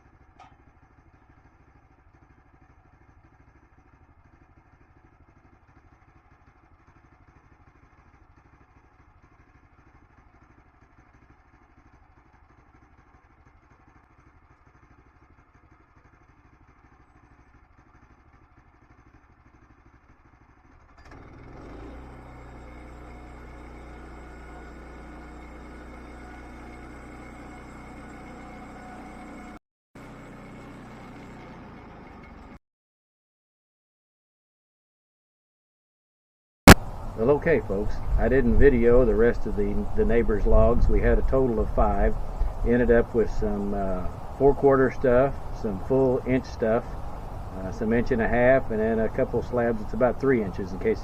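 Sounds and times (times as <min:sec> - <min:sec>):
engine running: 0:00.0 - 0:32.6, 0:36.7 - 0:51.0.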